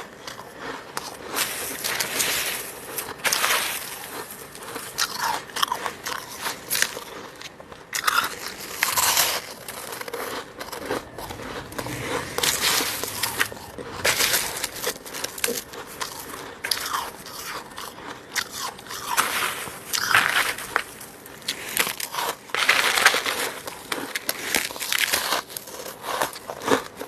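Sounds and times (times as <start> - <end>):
crunching frost being chewed: 0.0 - 27.0.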